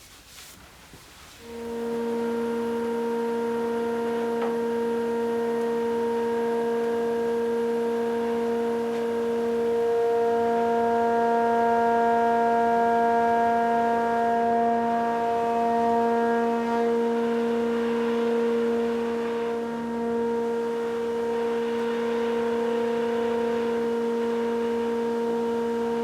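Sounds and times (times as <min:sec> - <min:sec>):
steady pitched drone: 0:01.5 - 0:26.0.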